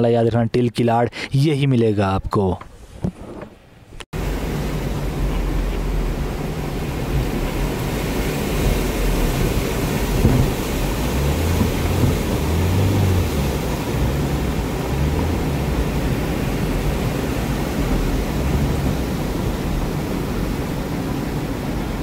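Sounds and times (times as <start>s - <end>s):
stream rushing over boulders: 4.2s - 22.0s
vehicle engine humming: 4.2s - 22.0s.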